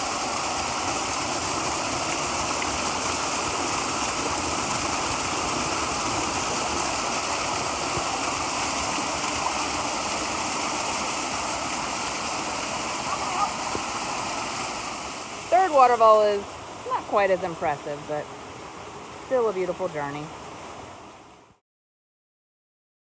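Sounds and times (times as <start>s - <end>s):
waterfall rushing: 0.0s - 21.4s.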